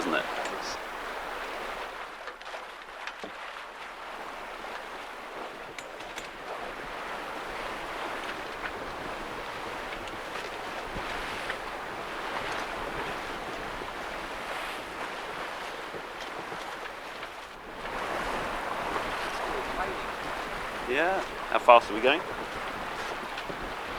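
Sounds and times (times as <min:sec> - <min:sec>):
water rushing along a hull: 0:00.0 - 0:23.9
wind buffeting microphone: 0:04.1 - 0:23.9.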